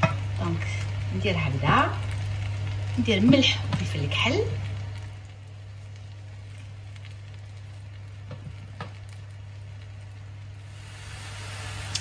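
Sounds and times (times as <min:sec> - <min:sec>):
mushrooms sizzling in a pan: 0:00.0 - 0:12.0
steady low hum: 0:00.0 - 0:12.0.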